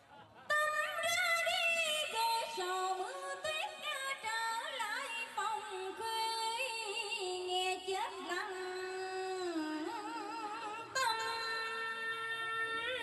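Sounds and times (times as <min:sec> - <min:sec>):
woman singing into microphone: 0:00.5 - 0:13.0.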